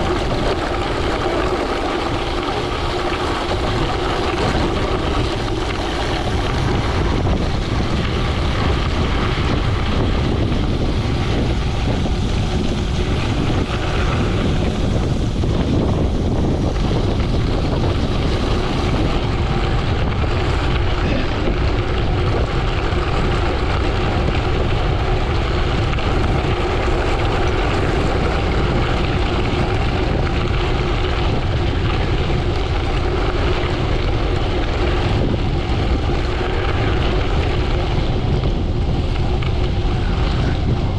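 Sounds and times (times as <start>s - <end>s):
bike tyres rumbling on gravel: 0.0s - 40.9s
wind rushing over microphone: 0.0s - 40.9s.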